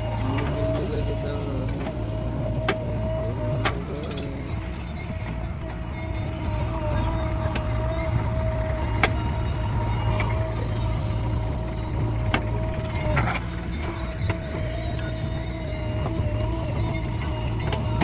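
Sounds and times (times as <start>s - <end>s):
engine whine: 0.0s - 18.0s
excavator diesel engine running: 0.0s - 18.0s.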